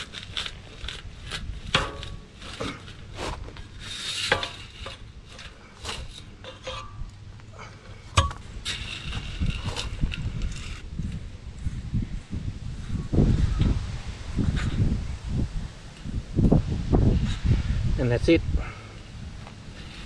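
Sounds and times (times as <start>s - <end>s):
wind rumble on microphone: 0.0s - 6.2s, 8.0s - 20.0s.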